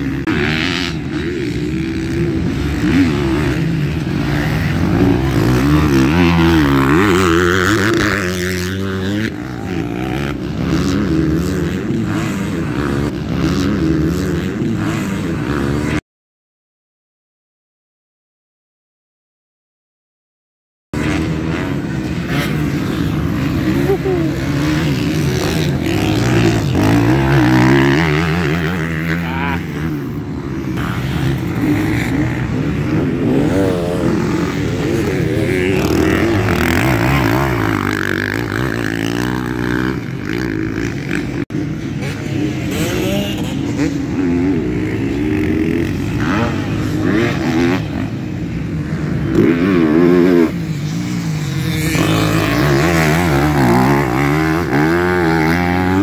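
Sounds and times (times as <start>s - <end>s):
dirt bike engines revving: 0.0s - 16.0s, 21.0s - 56.0s.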